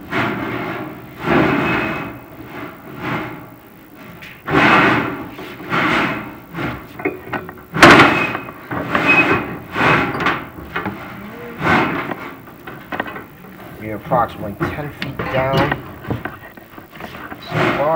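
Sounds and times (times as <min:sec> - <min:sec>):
cable scraping inside metal flue: 0:00.1 - 0:03.4, 0:04.2 - 0:17.9.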